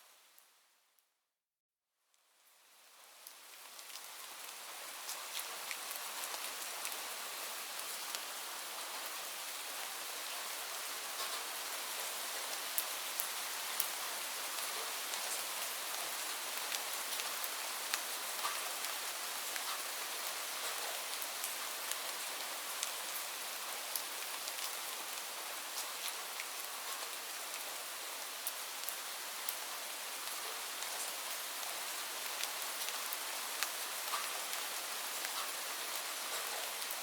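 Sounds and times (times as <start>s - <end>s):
steady rain falling: 2.1s - 37.0s.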